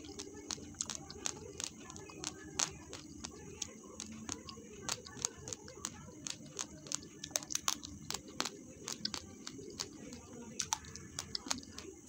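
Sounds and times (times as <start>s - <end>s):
rice grains crunching while chewed: 0.0s - 12.0s.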